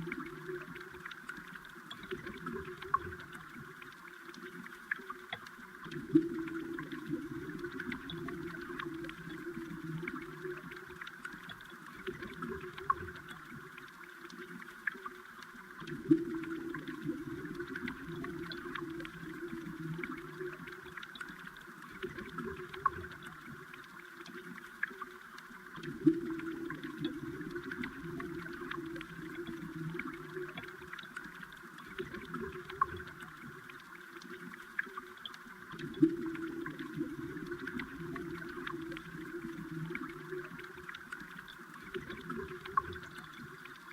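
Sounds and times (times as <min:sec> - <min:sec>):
underwater stream gurgling: 0:00.0 - 0:43.9.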